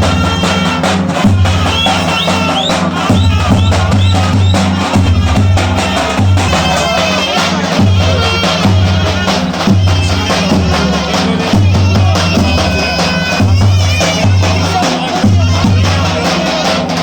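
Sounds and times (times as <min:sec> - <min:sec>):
heavy steady drum beat: 0:00.0 - 0:17.0
shrill reed melody: 0:00.0 - 0:17.0.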